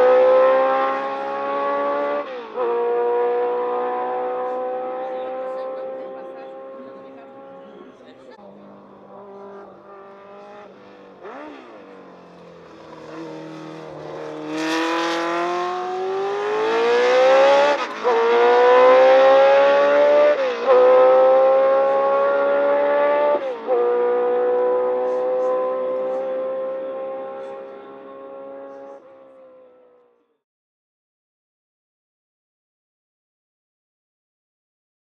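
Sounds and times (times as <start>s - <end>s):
race car engine accelerating: 0.0s - 29.8s.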